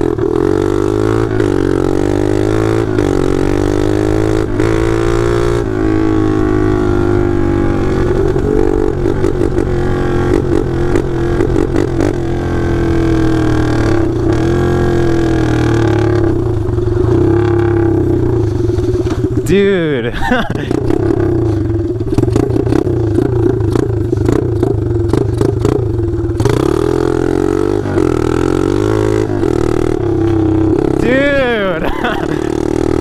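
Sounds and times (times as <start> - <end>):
loud motorbike engine revving: 0.0 - 33.0.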